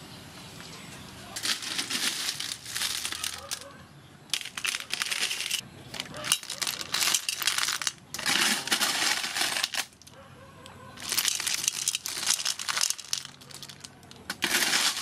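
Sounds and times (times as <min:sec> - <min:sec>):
snail shells clattering: 0:01.4 - 0:03.7, 0:04.3 - 0:10.2, 0:11.0 - 0:15.0.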